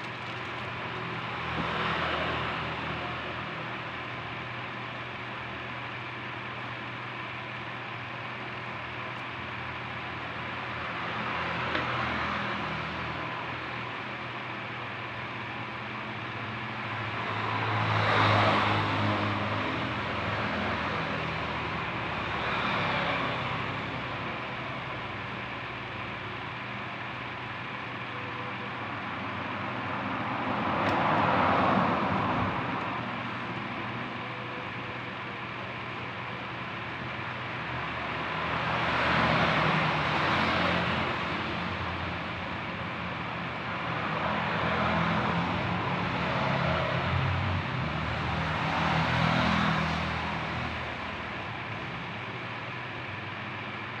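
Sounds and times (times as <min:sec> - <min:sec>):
steady low traffic hum: 0:00.0 - 0:54.0
vehicles passing by: 0:00.0 - 0:54.0.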